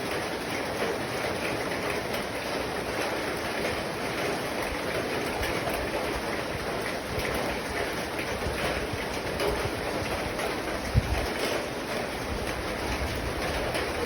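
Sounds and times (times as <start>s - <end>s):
rain falling on a roof: 0.0s - 14.0s.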